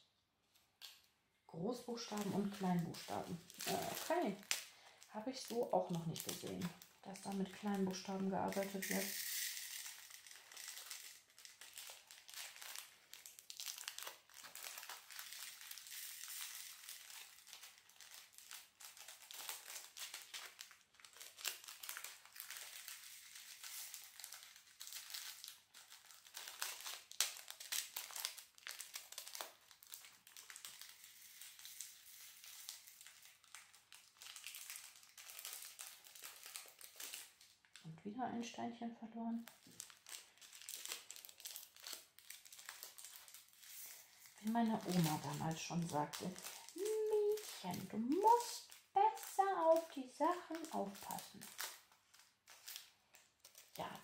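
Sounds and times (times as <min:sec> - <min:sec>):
plastic bags crinkling: 0:00.5 - 0:37.9, 0:39.3 - 0:54.0.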